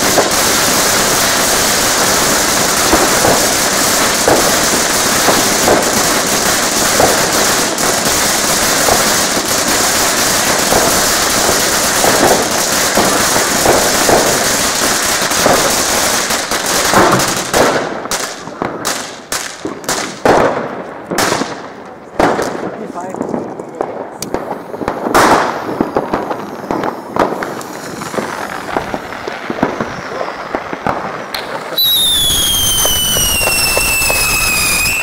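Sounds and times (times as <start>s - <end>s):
firecrackers crackling and banging: 0.0s - 35.0s.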